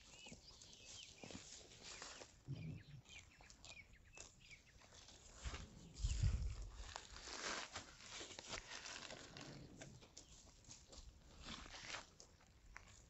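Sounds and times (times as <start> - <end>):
footsteps on dry ground: 0.0 - 13.0.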